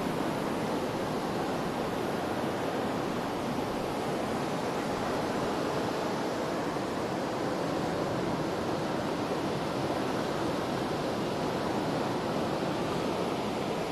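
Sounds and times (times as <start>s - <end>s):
sea surf on the shore: 0.0s - 13.9s.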